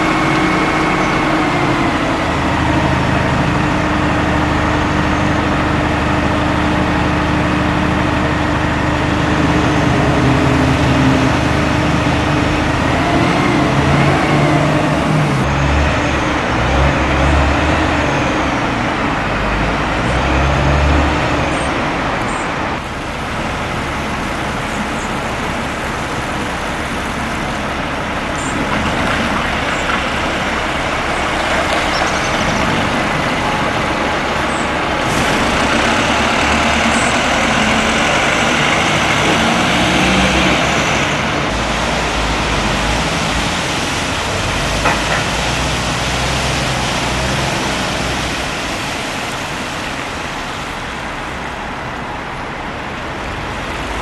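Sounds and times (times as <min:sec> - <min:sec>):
diesel engine running: 0:00.0 - 0:54.0
traffic noise: 0:00.0 - 0:54.0.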